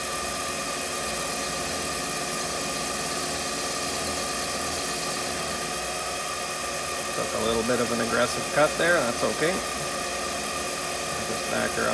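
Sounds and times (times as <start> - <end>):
lathe motor whine: 0.0 - 11.9.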